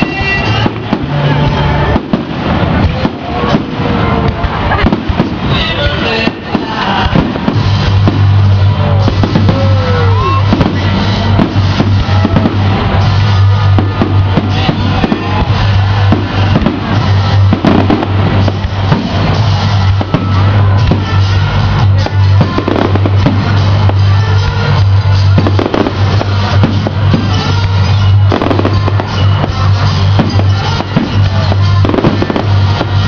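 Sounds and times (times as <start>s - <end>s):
fireworks bursting and crackling: 0.0s - 33.0s
heavy steady bass line: 0.0s - 33.0s
loud music: 0.0s - 33.0s.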